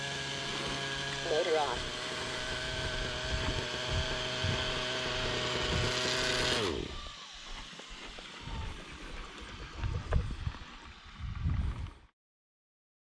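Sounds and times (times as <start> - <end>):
model helicopter engine running: 0.0 - 12.1.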